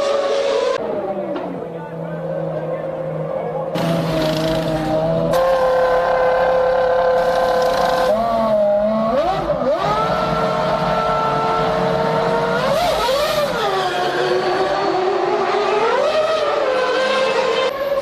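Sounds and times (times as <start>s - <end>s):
racing car engine revving: 2.3s - 17.7s.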